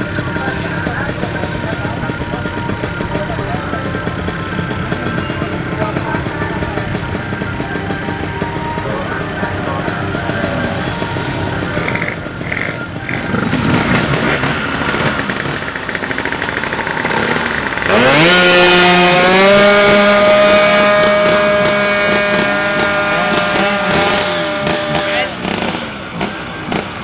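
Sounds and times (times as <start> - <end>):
scooter engine revving: 0.0 - 27.0.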